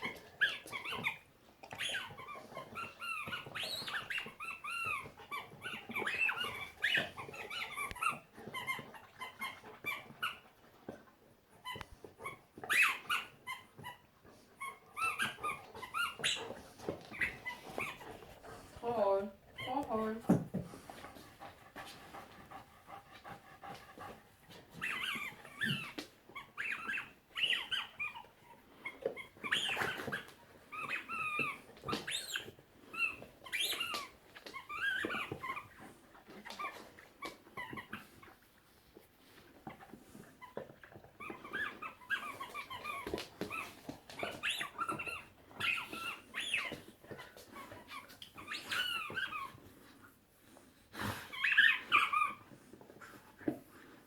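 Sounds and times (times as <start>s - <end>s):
dog whining: 0.0s - 10.6s, 11.5s - 20.4s, 21.0s - 38.5s, 39.3s - 50.0s, 51.0s - 53.6s.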